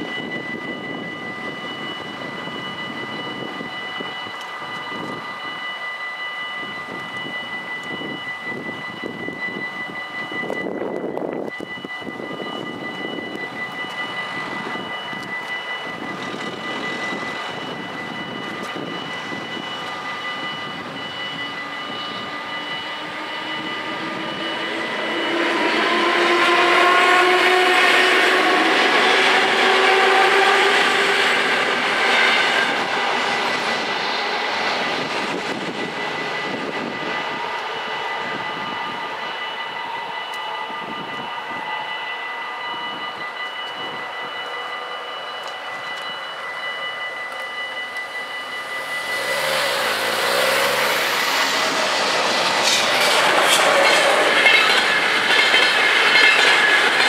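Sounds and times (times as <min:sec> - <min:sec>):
electric train rumble and whine: 0:00.0 - 0:57.0
level crossing warning bells: 0:00.0 - 0:57.0.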